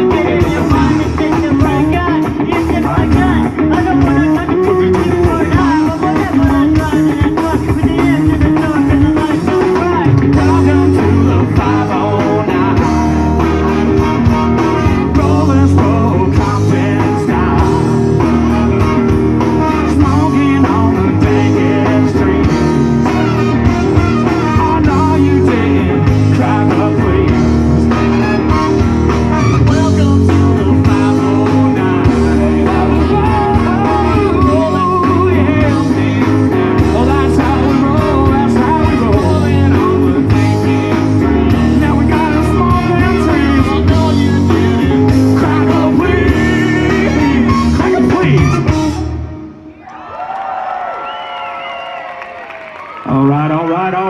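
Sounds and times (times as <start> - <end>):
person singing: 0.0 - 49.1
live rock band playing: 0.0 - 49.8.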